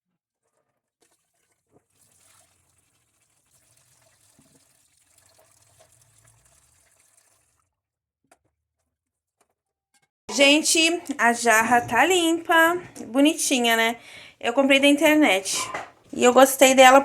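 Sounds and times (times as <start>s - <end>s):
tap water running: 0.8s - 7.7s, 10.3s - 17.0s.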